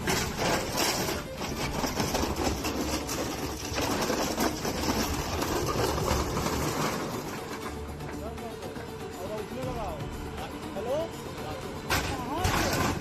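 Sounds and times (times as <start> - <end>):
machinery mechanical clatter: 0.0 - 9.9, 11.8 - 13.0.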